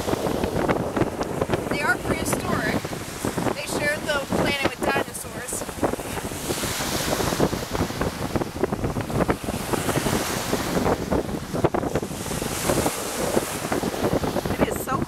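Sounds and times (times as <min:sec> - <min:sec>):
small waves breaking on shore: 0:00.0 - 0:15.0
wind buffeting microphone: 0:00.0 - 0:15.0.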